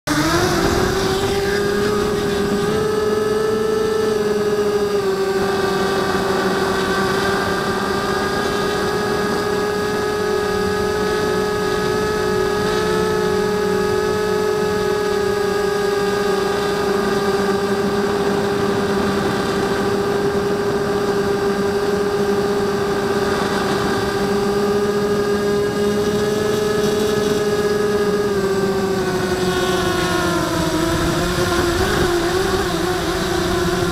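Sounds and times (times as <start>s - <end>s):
quadcopter motors and propellers whining: 0.0s - 33.9s.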